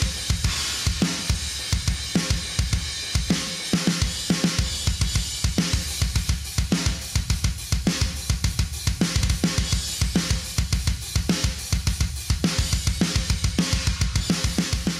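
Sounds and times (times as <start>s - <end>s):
cymbals: 0.0s - 14.9s
fast bass drum strokes: 0.0s - 14.9s.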